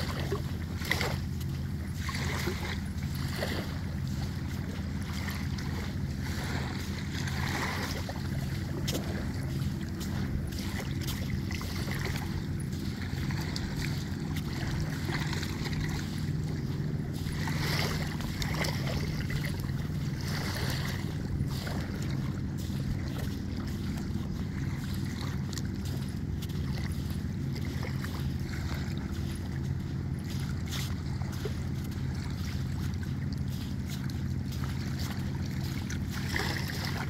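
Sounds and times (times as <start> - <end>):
small waves washing on beach: 0.0 - 37.0
steady low rumble: 0.0 - 37.0.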